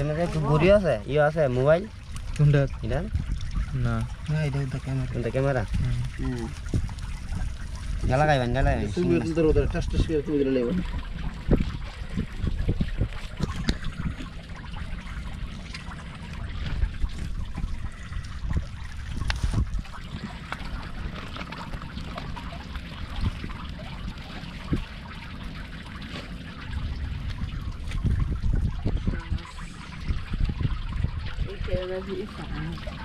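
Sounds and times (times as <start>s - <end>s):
low uneven rumble: 0.0s - 33.0s
water trickling and dripping: 0.0s - 33.0s.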